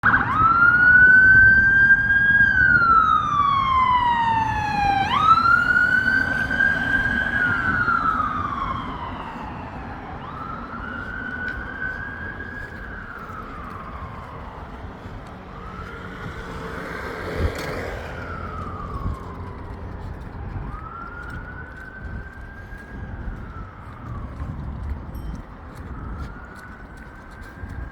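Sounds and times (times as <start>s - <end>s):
ambulance siren wailing: 0.0s - 27.9s
road traffic noise: 0.0s - 27.9s.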